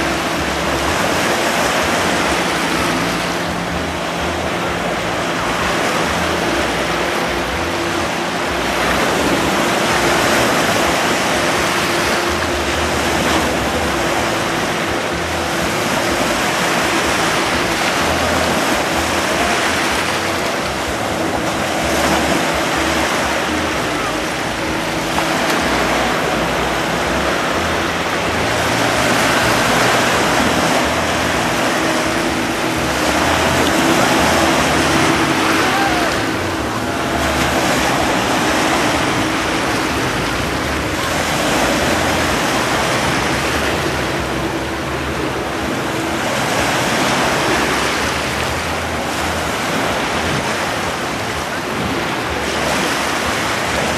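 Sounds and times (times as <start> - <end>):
sea waves washing: 0.0 - 53.9
speedboat engine running: 0.0 - 53.9.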